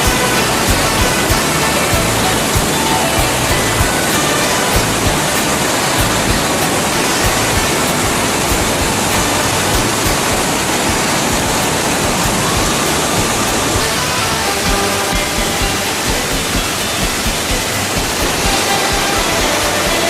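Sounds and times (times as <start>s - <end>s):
faint music: 0.0s - 20.0s
waterfall roaring: 0.0s - 20.0s.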